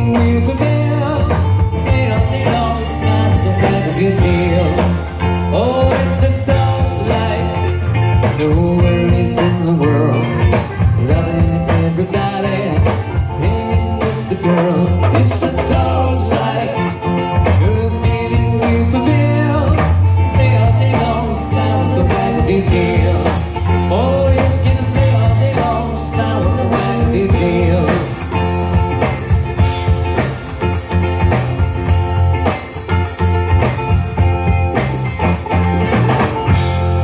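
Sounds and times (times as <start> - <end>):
bass guitar: 0.0 - 37.0
drum kit beat: 0.0 - 37.0
electric guitar: 0.0 - 37.0.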